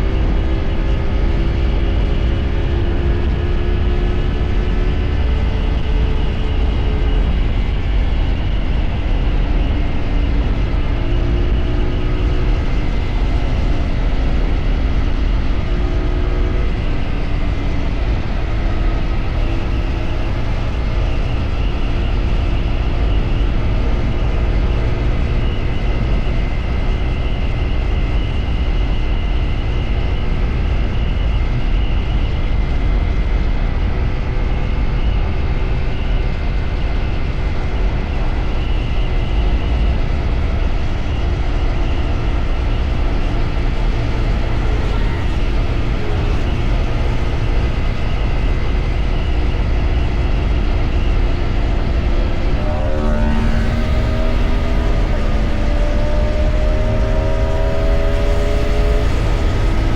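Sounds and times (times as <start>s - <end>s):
motorcycle engine while riding: 0.0s - 59.9s
wind rumble on microphone: 0.0s - 59.9s.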